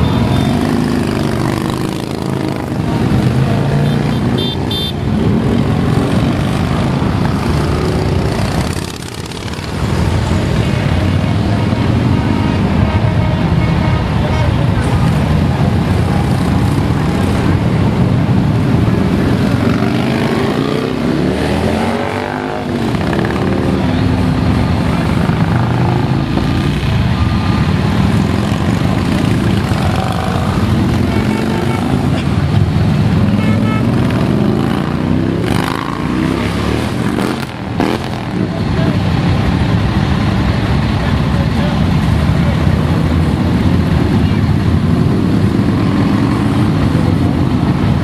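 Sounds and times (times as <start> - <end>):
motorcycles passing: 0.0 - 48.0.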